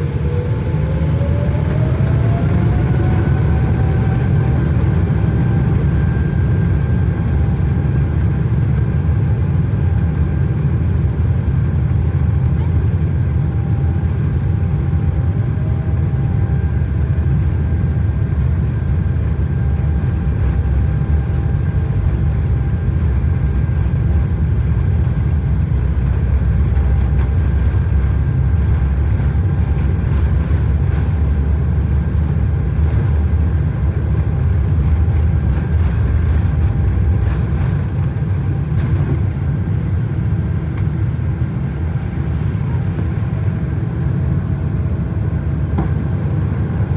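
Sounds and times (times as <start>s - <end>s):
aircraft cabin low rumble: 0.0s - 46.9s
faint high engine whine: 0.0s - 46.9s.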